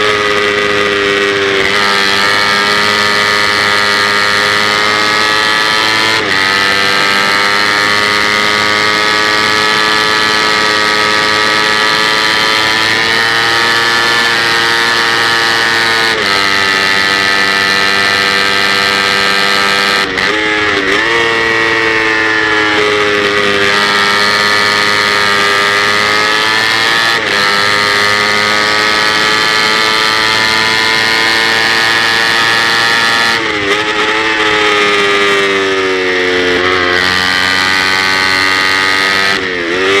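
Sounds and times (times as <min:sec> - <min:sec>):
motorcycle engine high revs: 0:00.0 - 0:40.0.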